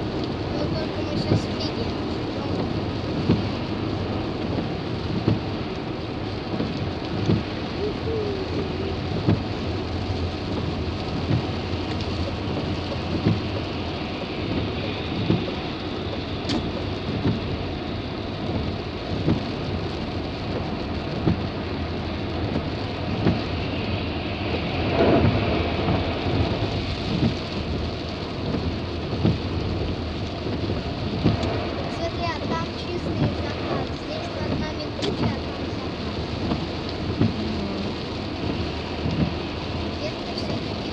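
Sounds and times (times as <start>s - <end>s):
heavy rain on car: 0.0s - 40.9s
rush of spray: 0.0s - 40.9s
tyres hissing on wet road: 0.0s - 40.9s.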